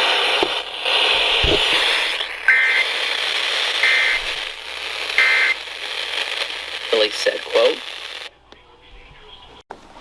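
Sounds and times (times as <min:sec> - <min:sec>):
buzzy data bursts: 0:00.0 - 0:08.3
radio static hiss: 0:00.0 - 0:09.6.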